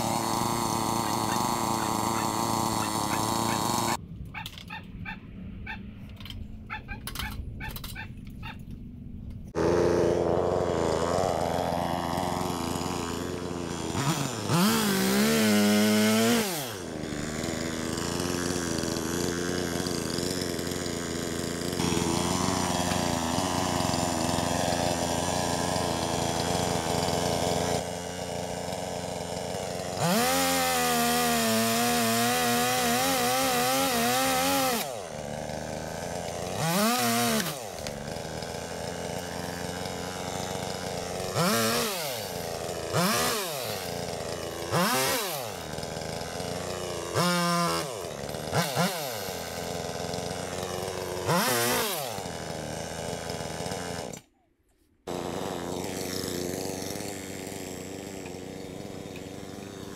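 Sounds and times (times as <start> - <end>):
chainsaw cutting branches: 0.0 - 5.8, 9.5 - 54.4, 55.0 - 59.9.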